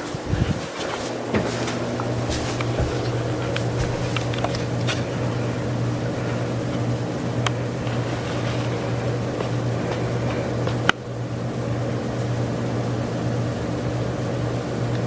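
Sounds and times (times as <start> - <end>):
air rushing from fan blades: 0.0 - 15.0
ceiling fan motor hum: 0.0 - 15.0.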